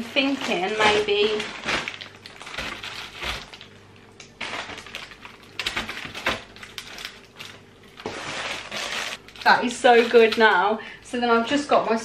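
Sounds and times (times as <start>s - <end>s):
plastic bags rustling: 0.0s - 10.9s.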